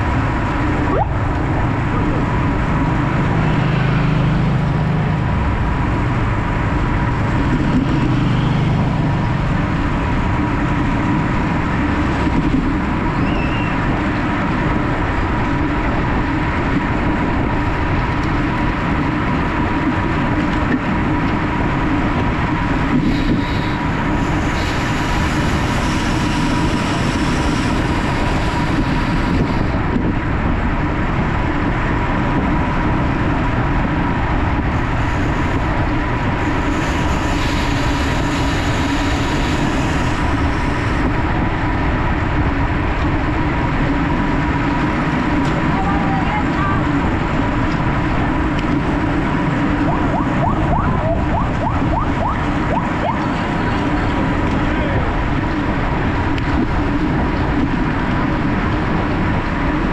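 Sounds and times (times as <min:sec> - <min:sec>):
loud wind rush on microphone: 0:00.0 - 0:59.9.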